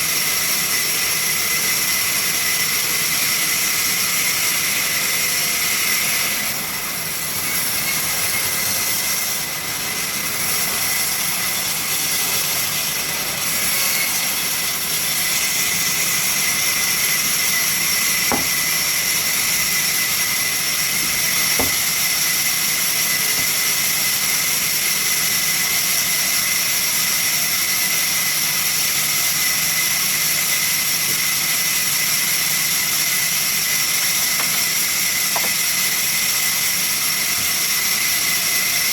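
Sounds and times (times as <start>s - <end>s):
sawmill saw whining: 0.0s - 38.9s.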